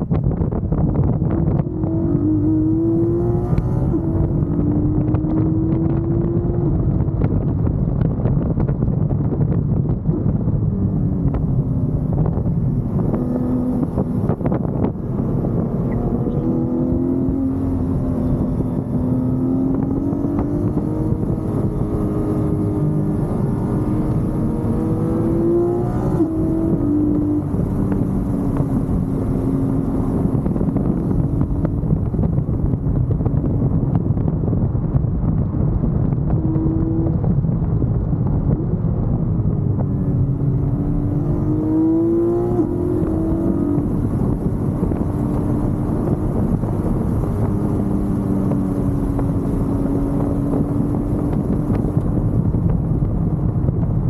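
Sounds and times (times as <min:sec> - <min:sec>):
car engine running hard: 0:00.0 - 0:54.0
road and wind noise: 0:00.0 - 0:54.0.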